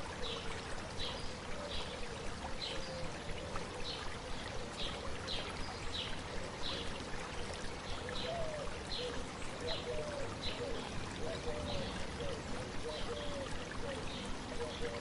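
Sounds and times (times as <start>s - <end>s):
stream babbling: 0.0s - 15.0s.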